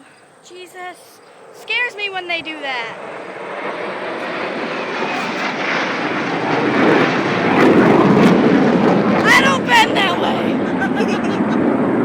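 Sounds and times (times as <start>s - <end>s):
jet aircraft roar: 0.2s - 12.0s.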